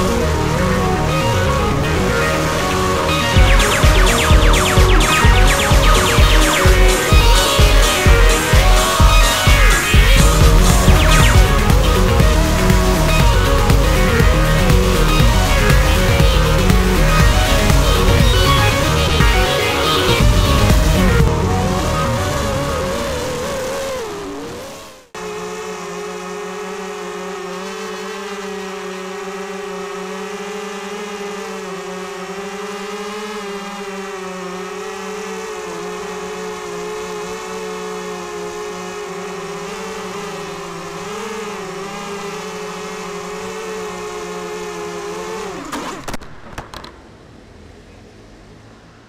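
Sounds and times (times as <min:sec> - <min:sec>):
quadcopter motors spinning: 0:00.0 - 0:21.2, 0:22.3 - 0:46.2.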